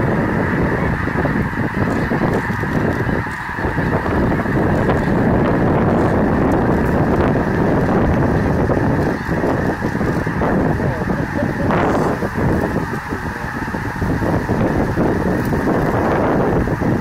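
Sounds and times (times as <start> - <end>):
geese honking in flight: 0.0 - 17.0.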